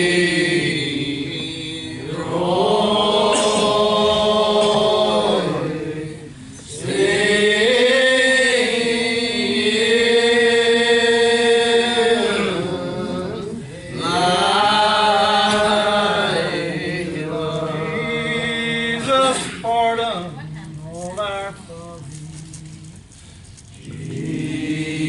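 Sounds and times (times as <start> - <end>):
church singing in long held notes: 0.0 - 19.6, 23.7 - 25.0.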